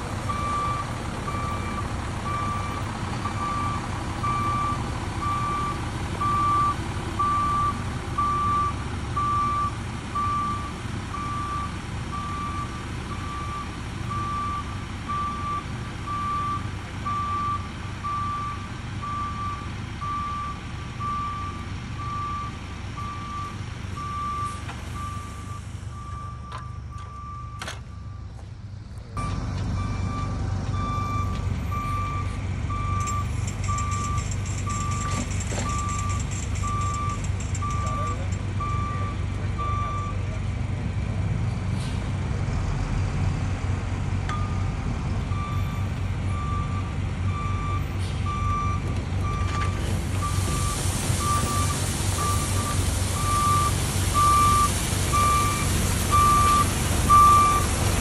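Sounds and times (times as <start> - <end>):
truck engine running: 0.0 - 58.0
truck backup alarm beeping: 0.2 - 28.4, 29.2 - 40.3, 44.3 - 58.0.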